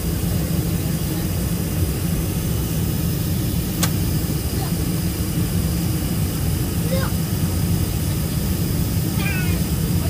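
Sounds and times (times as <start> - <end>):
jet engine rumble in cabin: 0.0 - 10.0.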